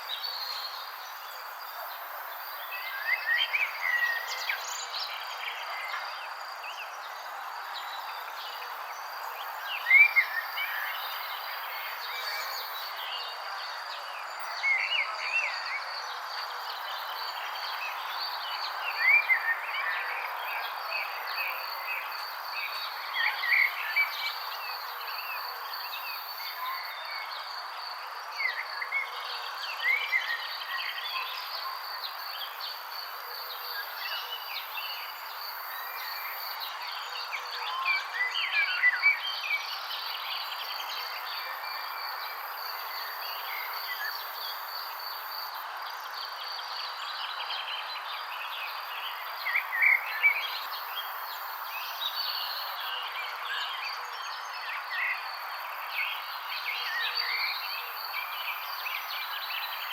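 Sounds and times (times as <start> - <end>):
continuous hiss: 0.0 - 59.9.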